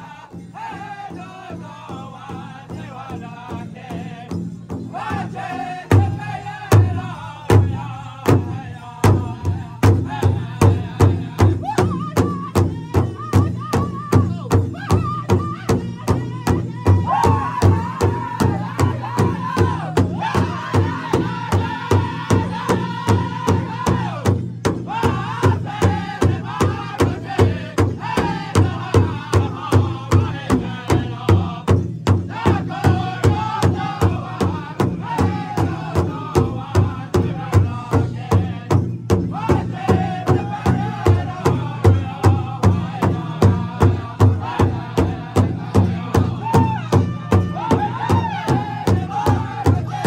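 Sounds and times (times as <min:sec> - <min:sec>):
group singing in high voices: 0:00.0 - 0:50.0
large drum steady beat: 0:00.0 - 0:50.0.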